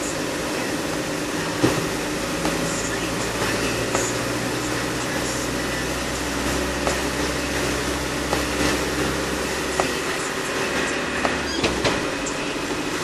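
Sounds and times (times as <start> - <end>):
low engine hum: 0.0 - 13.0
water spraying against car: 0.0 - 13.0.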